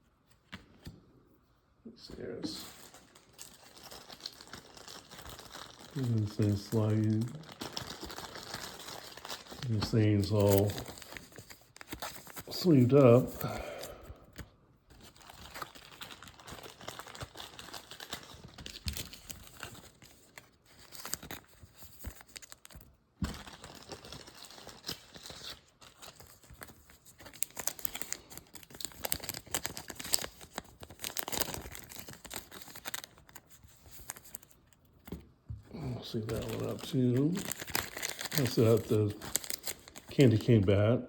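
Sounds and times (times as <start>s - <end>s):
plastic card sleeves crinkling: 2.1s - 40.8s.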